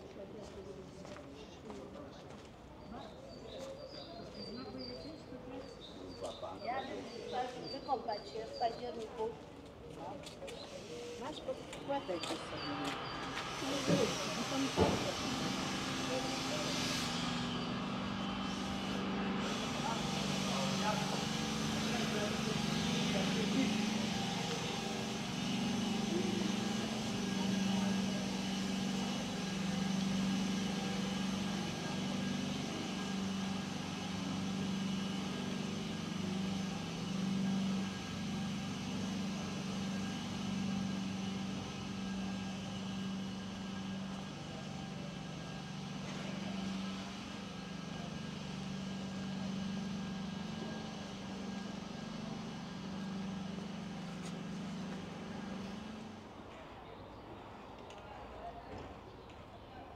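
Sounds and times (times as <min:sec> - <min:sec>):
low hum of traffic: 0:00.0 - 0:59.9.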